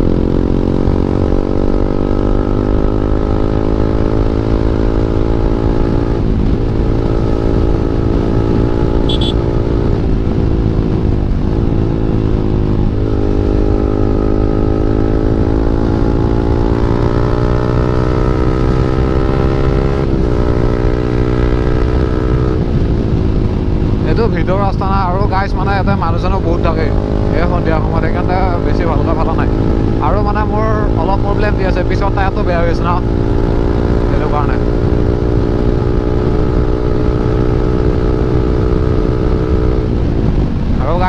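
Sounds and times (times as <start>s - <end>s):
motorcycle engine running loud: 0.0s - 41.0s.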